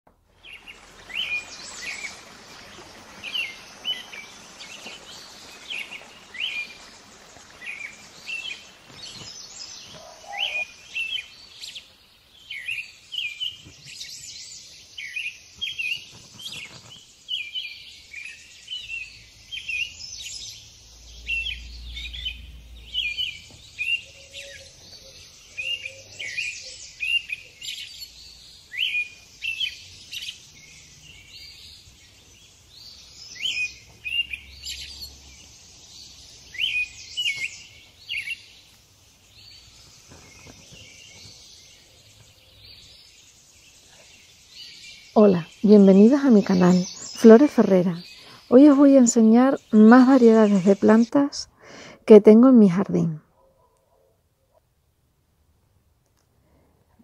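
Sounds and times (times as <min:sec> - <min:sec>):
faint steady hiss: 0:00.1 - 0:53.1, 0:53.8 - 0:57.0
small birds chirping: 0:00.2 - 0:54.7.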